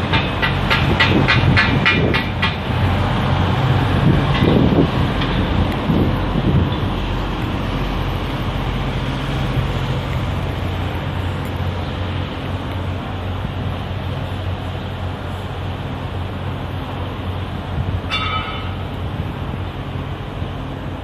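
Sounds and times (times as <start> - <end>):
low machinery hum: 0.0 - 21.0.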